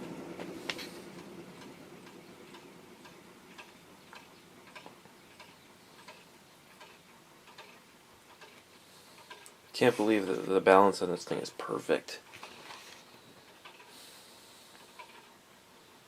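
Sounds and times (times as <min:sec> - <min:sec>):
ceiling fan air rush: 0:00.0 - 0:16.0
faint regular ticking: 0:00.4 - 0:16.0.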